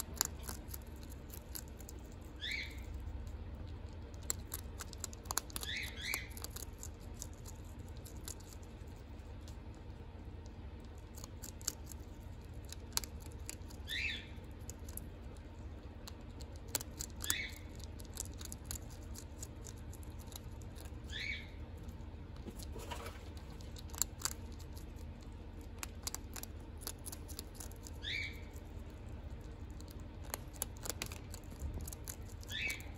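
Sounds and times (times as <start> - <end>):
animal chewing crunchy kibble: 0.0 - 32.9
low steady hum: 0.0 - 32.9.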